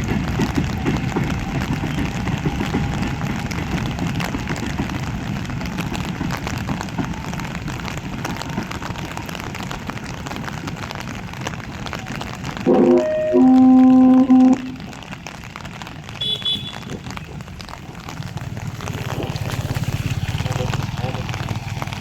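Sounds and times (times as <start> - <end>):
steady rain falling: 0.0 - 22.0
train rumbling on rails: 0.0 - 22.0.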